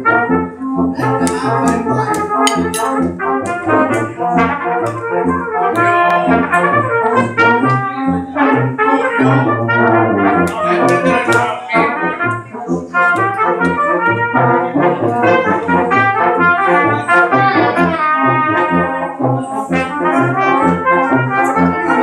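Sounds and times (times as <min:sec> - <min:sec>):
brass band playing march: 0:00.0 - 0:22.0
trumpet melody: 0:00.0 - 0:22.0.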